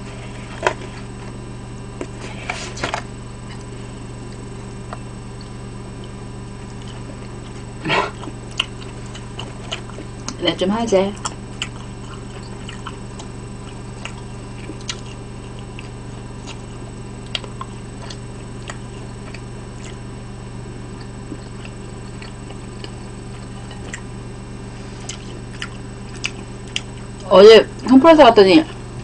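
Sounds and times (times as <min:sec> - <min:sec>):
low hum: 0:00.0 - 0:29.0
person chewing: 0:02.0 - 0:10.4, 0:11.2 - 0:20.2, 0:20.8 - 0:27.9.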